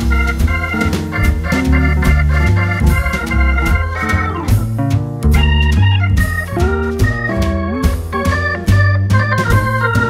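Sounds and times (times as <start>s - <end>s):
bass line: 0.0s - 10.0s
keyboard tune: 0.0s - 10.0s.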